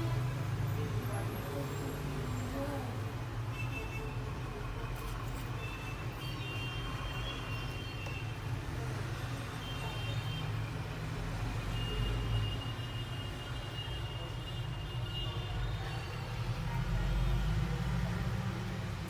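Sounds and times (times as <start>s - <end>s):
road traffic rumble: 0.0s - 3.5s, 6.9s - 19.0s.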